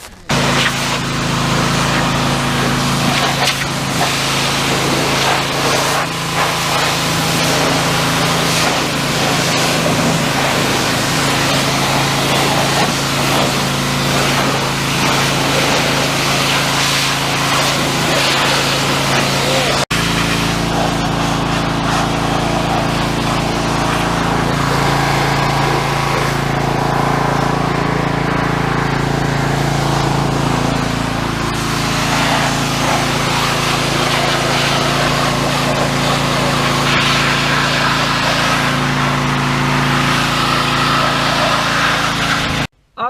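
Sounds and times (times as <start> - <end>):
pressure washer engine running: 0.0 - 42.7
water spray hissing: 0.0 - 42.7.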